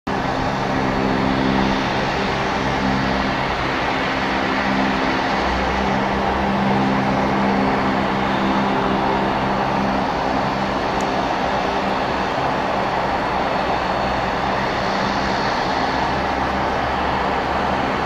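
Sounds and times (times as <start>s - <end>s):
turboprop engines droning: 0.1s - 18.0s.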